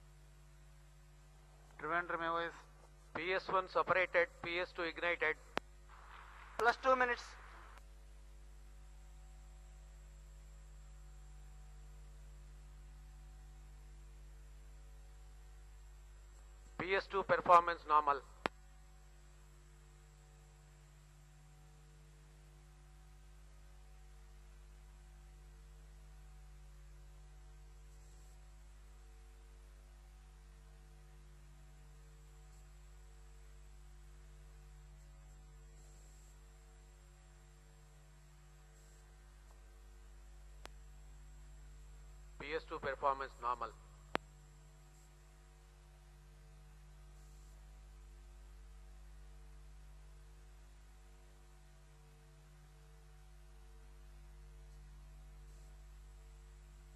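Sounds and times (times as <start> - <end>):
electrical hum and hiss: 0.0 - 56.9
thin high whine: 0.0 - 56.9.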